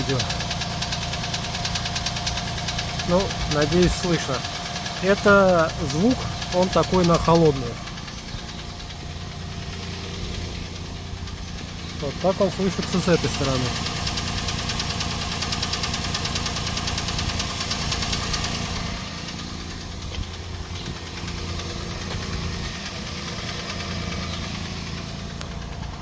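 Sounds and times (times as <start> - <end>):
engine idling with rapid knock: 0.0 - 26.0.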